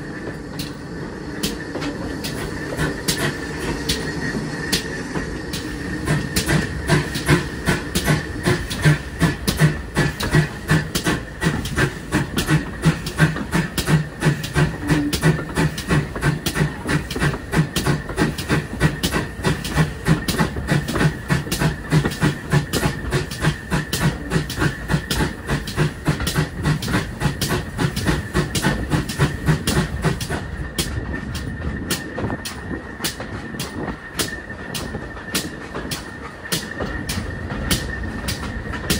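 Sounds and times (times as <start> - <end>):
steam train running: 0.0 - 38.9.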